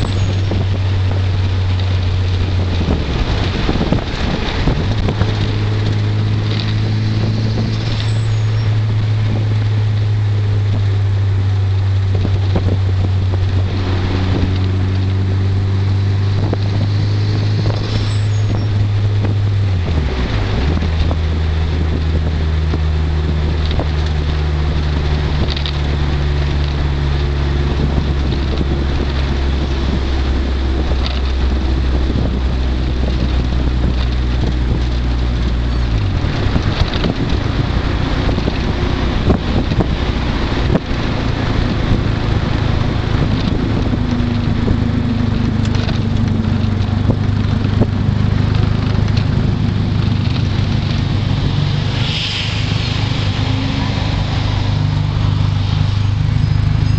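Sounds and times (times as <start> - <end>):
car engine drone from inside: 0.0 - 56.9
road and wind noise: 0.0 - 56.9.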